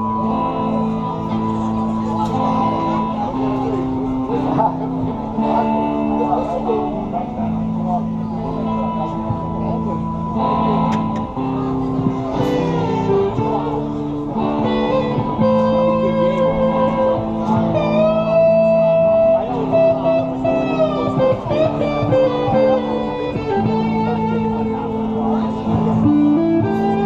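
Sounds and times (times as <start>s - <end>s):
bass guitar: 0.0s - 27.0s
lead electric guitar bending notes: 0.0s - 27.0s.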